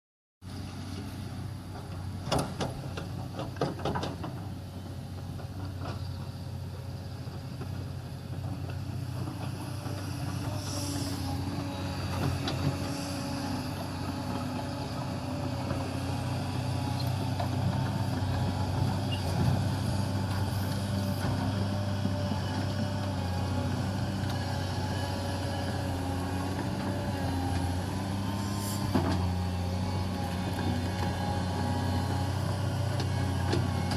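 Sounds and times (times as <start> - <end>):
excavator diesel engine under load: 0.5 - 33.9.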